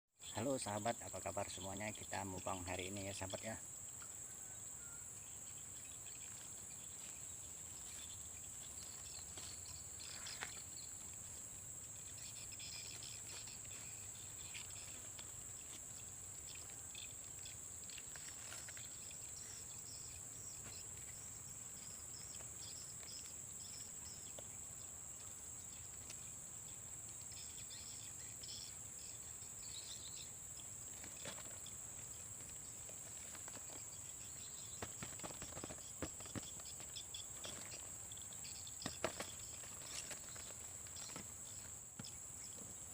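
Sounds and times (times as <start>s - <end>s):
insects chirring: 0.2s - 42.9s
short insect chirps: 0.2s - 42.9s.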